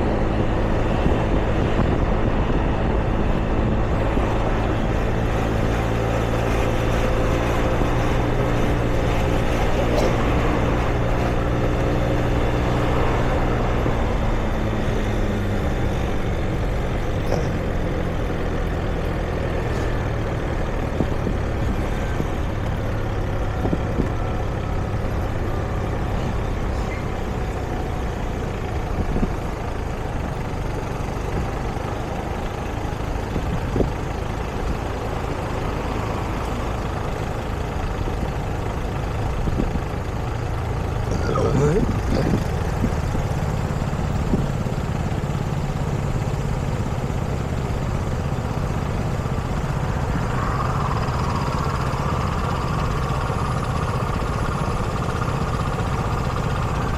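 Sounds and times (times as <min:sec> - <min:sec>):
heavy vehicle engine humming: 0:00.0 - 0:56.9
passing traffic: 0:00.0 - 0:56.9.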